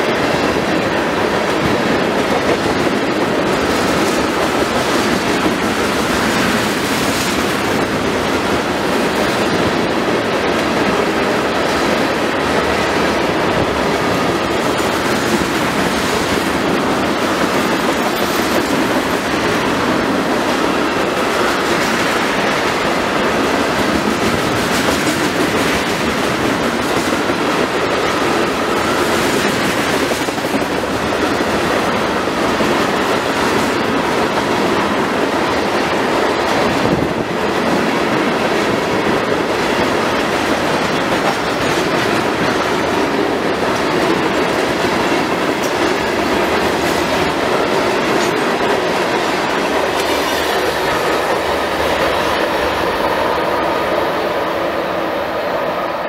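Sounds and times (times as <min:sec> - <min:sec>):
train wheels clattering over rails: 0:00.0 - 0:56.0.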